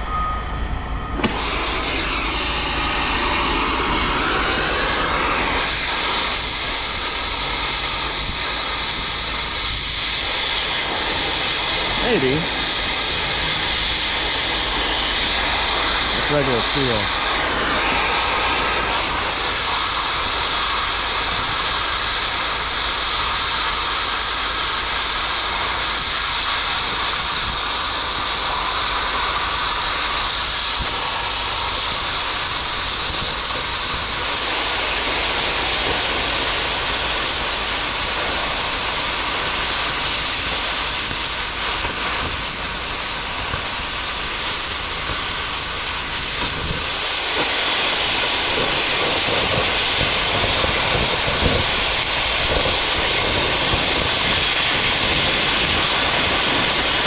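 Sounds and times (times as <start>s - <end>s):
cutting torch hissing: 1.1s - 57.0s.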